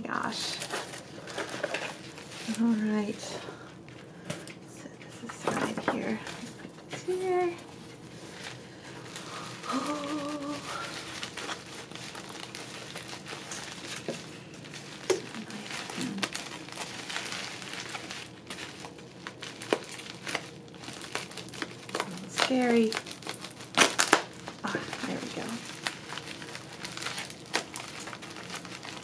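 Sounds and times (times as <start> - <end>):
bubble wrap crinkling: 0.0 - 4.4, 5.2 - 29.0
small clicks and crackles: 3.8 - 29.0.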